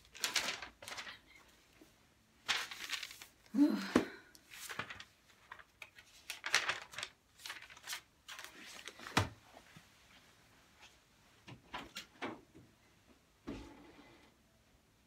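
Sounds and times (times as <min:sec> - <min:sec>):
rustling and shuffling: 0:00.0 - 0:03.5, 0:04.4 - 0:13.8.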